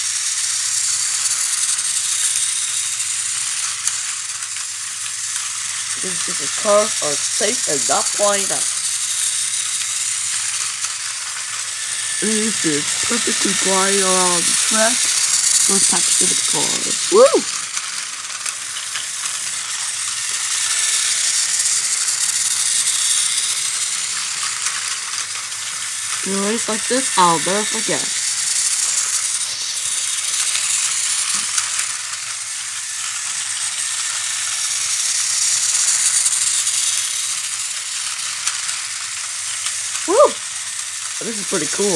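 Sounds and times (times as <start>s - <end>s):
toy train motors whirring: 0.0s - 41.9s.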